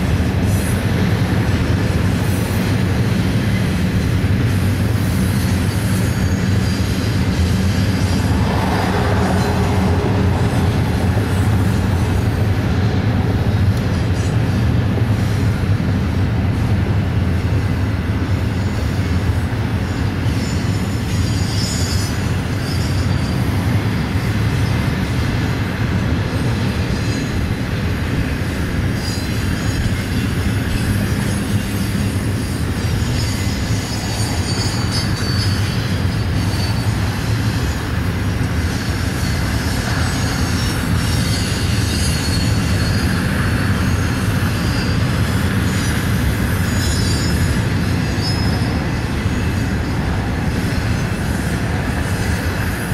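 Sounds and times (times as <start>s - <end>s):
steel wheels rumbling on rail: 0.0s - 52.9s
high wheel squeals: 0.4s - 15.9s, 17.3s - 25.6s, 26.3s - 52.9s.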